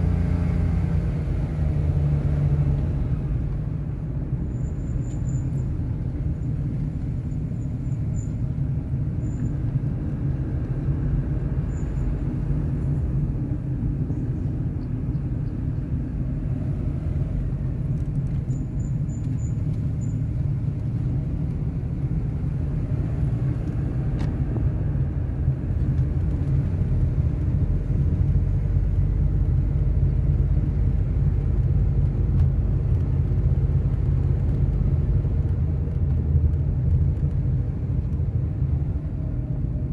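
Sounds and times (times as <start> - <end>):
vehicle driving rumble: 0.0 - 39.9.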